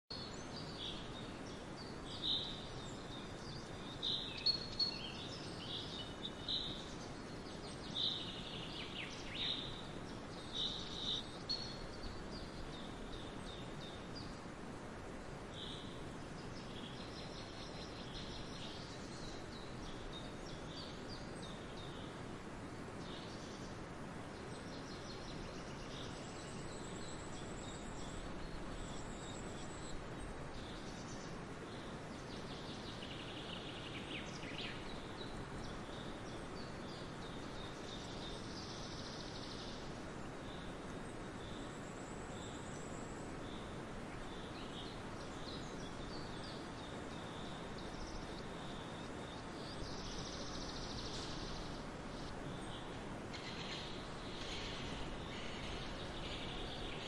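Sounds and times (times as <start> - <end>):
songbirds singing: 0.1 - 57.0
steady outdoor hiss: 0.1 - 57.0.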